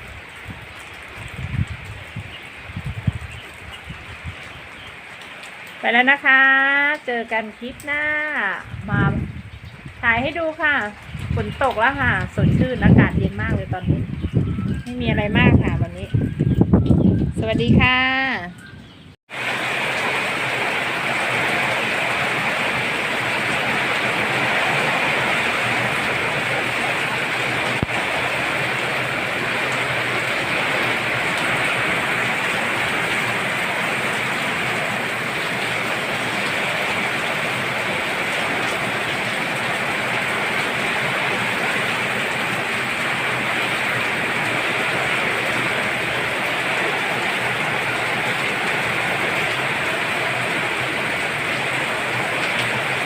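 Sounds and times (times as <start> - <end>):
heavy rain falling: 0.0 - 17.8, 19.3 - 53.0.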